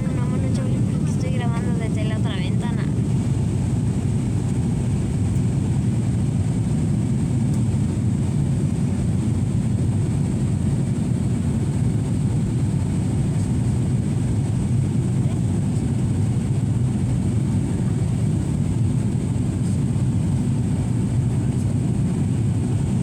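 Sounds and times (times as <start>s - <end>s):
airliner cabin rumble: 0.0s - 23.0s.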